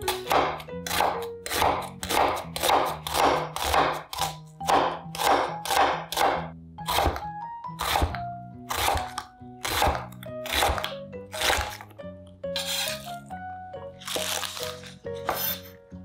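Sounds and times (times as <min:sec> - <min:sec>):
knife slicing radish on board: 0:00.0 - 0:12.0, 0:12.6 - 0:13.2, 0:14.0 - 0:15.8
light background music: 0:00.0 - 0:16.0.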